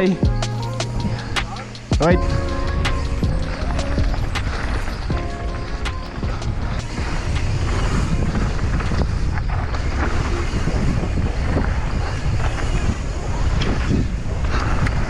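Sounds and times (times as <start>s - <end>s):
wind buffeting microphone: 0.0s - 15.0s
bike clicks and knocks: 0.2s - 15.0s
tyres rumbling on rough ground: 0.2s - 15.0s.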